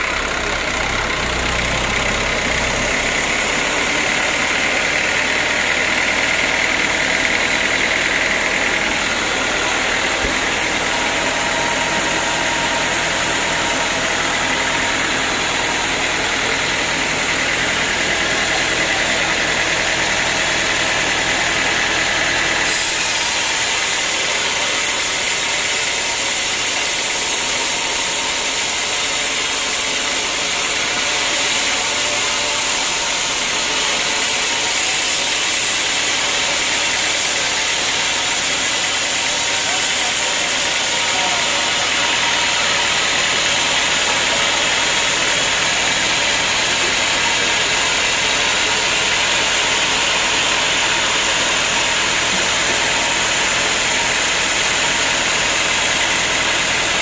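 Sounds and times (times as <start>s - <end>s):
diesel engine running sawmill: 0.0s - 57.0s.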